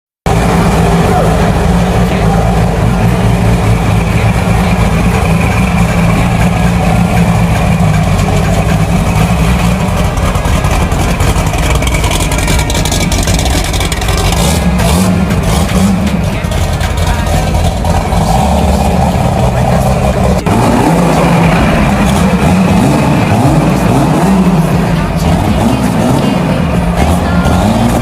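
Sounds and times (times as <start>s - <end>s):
car engine rumbling through exhaust: 0.2s - 28.0s.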